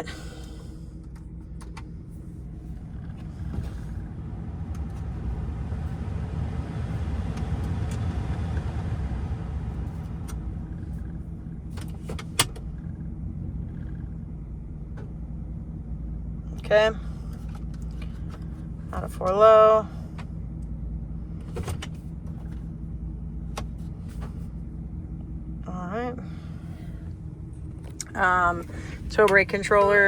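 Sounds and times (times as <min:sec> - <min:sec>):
truck engine hum inside cab: 0:00.0 - 0:30.0.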